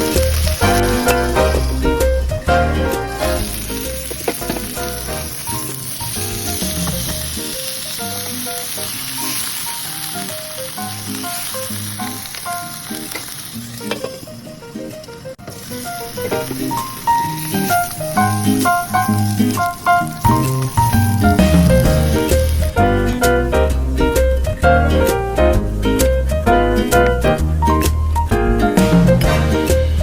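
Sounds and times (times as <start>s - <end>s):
food sizzling in hot oil: 0.0s - 14.4s, 15.4s - 25.2s
background music: 0.0s - 30.0s.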